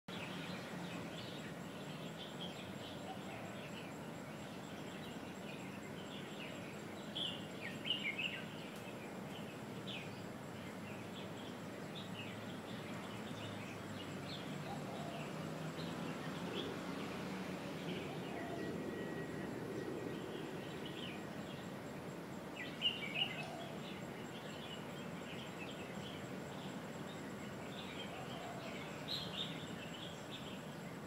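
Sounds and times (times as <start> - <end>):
birds chirping: 0.1 - 31.0
steady background hum: 0.2 - 31.0.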